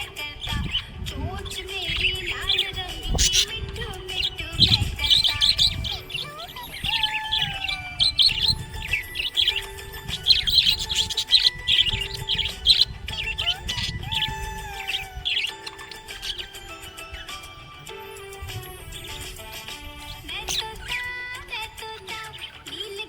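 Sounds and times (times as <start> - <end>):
budgerigars chirping: 0.0 - 18.4, 19.0 - 23.0
background music with held notes: 0.0 - 23.0.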